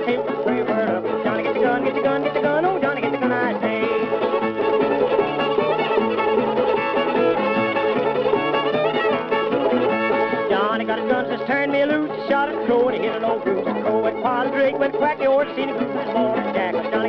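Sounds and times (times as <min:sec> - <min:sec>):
banjo: 0:00.0 - 0:17.0
fiddle leading string band: 0:00.0 - 0:17.0
guitar backing: 0:00.0 - 0:17.0.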